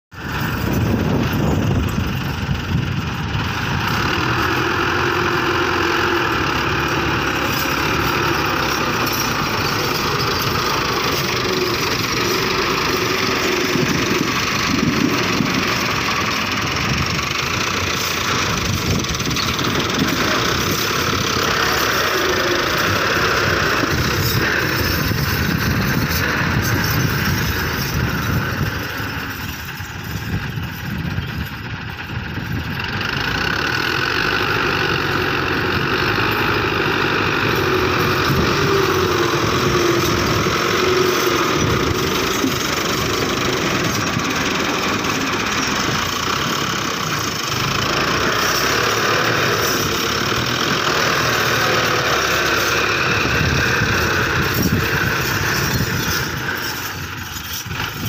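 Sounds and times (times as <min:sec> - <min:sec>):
tractor diesel engine running: 0:00.1 - 0:58.0.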